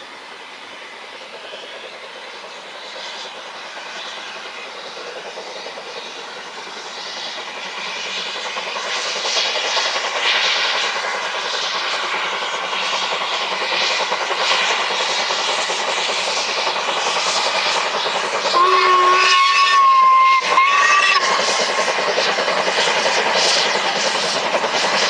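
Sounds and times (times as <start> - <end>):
steam train approaching: 0.0 - 25.0.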